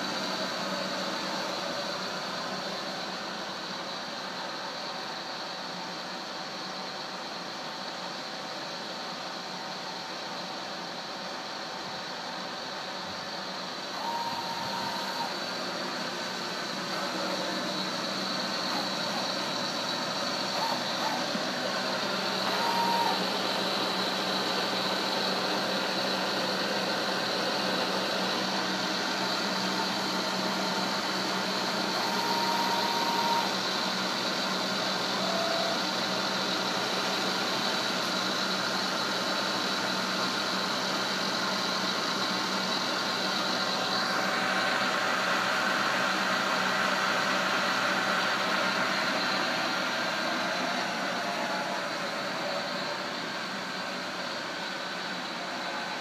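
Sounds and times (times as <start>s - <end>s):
milling machine humming and whining: 0.0s - 56.0s.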